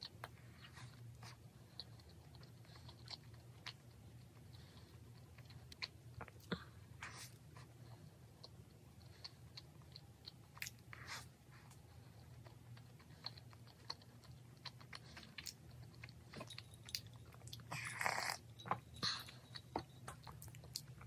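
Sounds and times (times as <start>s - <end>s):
person chewing: 0.0s - 21.0s.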